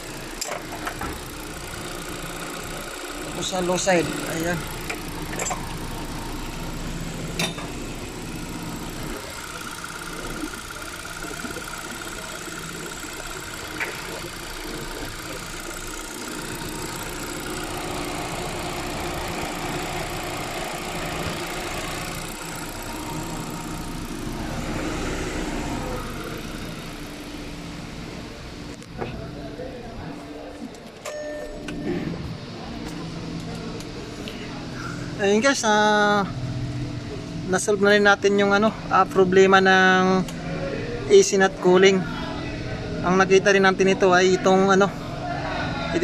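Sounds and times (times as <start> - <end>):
air conditioning running: 0.0 - 46.0
car engine idling: 0.0 - 46.0.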